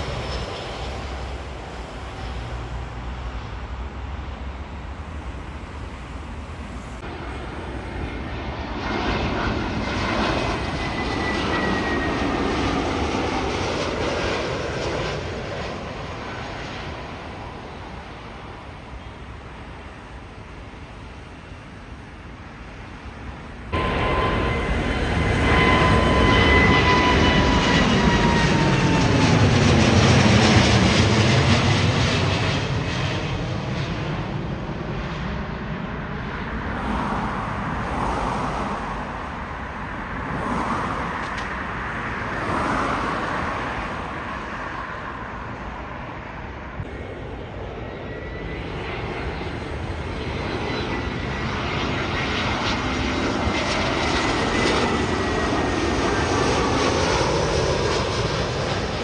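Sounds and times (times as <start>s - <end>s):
approaching jet whine: 0.0s - 59.0s
jet airliner passing by: 0.0s - 59.0s.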